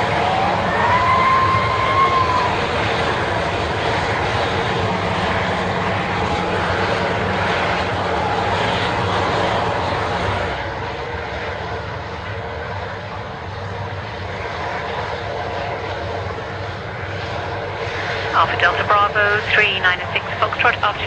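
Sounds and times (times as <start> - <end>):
jet engines idling: 0.0 - 21.0.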